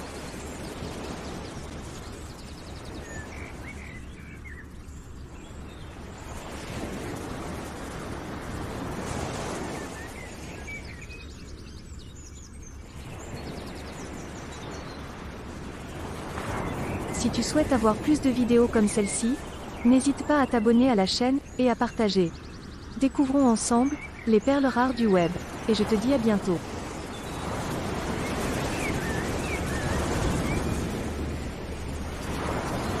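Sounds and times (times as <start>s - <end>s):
birds chirping and trilling: 0.0s - 7.6s, 9.4s - 33.0s
steady rushing noise: 0.0s - 33.0s.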